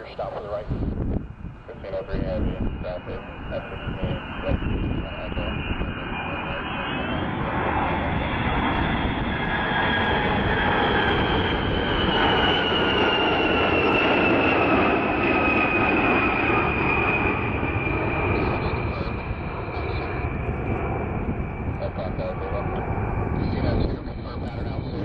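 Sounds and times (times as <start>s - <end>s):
jet engines with high whine: 0.0s - 25.0s.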